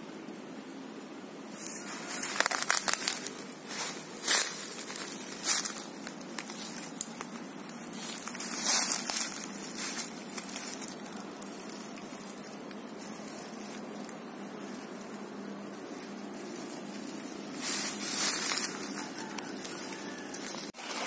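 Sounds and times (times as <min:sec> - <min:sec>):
footsteps crunching dry leaves: 0:01.6 - 0:15.2, 0:15.8 - 0:21.0.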